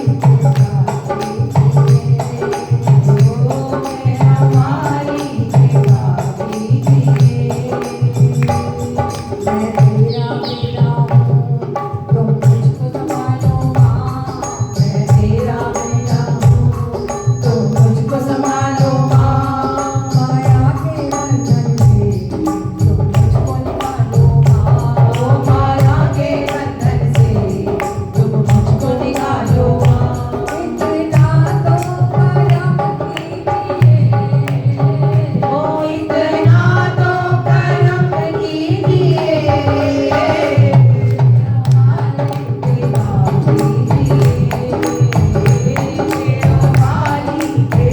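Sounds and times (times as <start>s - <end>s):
devotional music: 0.0s - 47.9s
hand drum beat: 0.0s - 47.9s
quick ticking percussion: 0.0s - 47.9s.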